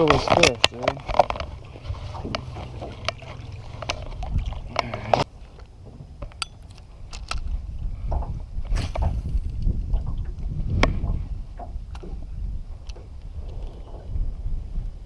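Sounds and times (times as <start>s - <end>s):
clicks and knocks in a boat: 0.0s - 14.5s
low steady rumble: 1.0s - 15.0s.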